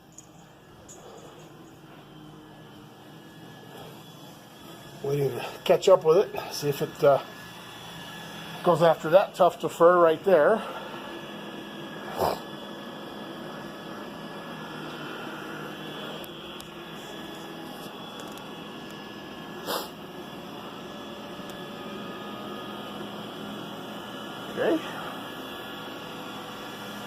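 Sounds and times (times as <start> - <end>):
robot vacuum humming: 0.0 - 27.0.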